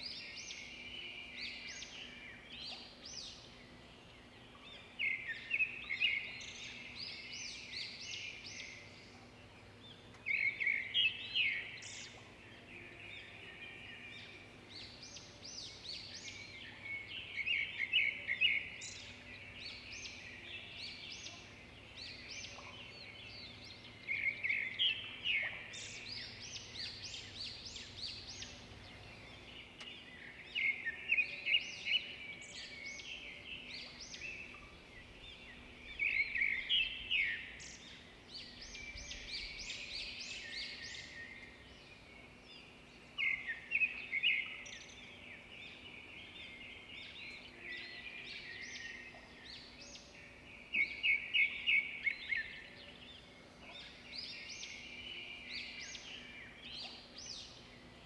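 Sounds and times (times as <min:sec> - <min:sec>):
faint steady hum: 0:00.0 - 0:58.0
small birds chirping: 0:00.0 - 0:58.0.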